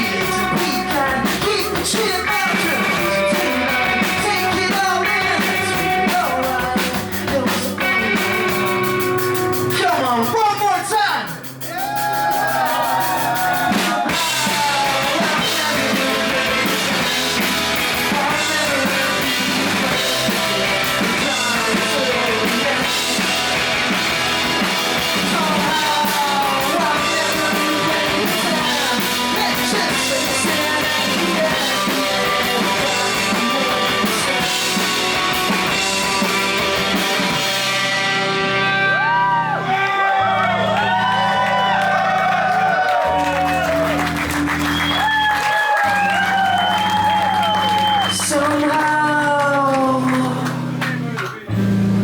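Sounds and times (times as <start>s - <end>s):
drum kit beat: 0.0s - 39.4s, 40.0s - 52.0s
vocals: 0.0s - 40.6s, 45.0s - 52.0s
guitars: 0.0s - 52.0s
rock band playing live: 0.0s - 52.0s.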